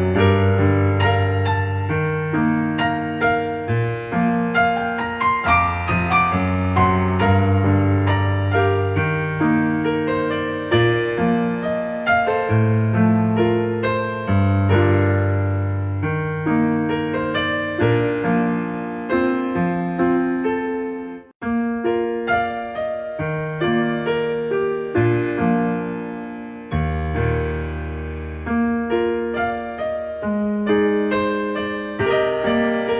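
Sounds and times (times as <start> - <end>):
gentle piano music: 0.0 - 32.9.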